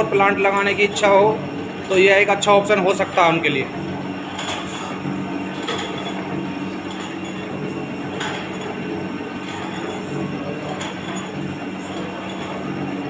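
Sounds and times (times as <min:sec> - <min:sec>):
oil press machine humming: 0:00.0 - 0:13.0.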